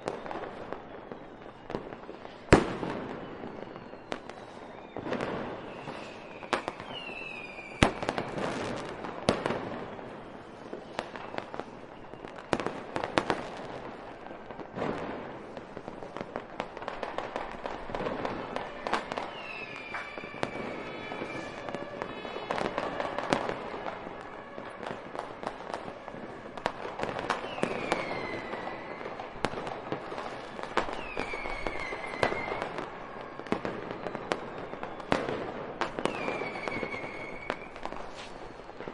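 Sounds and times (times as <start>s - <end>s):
fireworks bangs: 0.0s - 38.9s
fireworks crackling: 0.0s - 38.9s
whistling rockets: 0.0s - 38.9s.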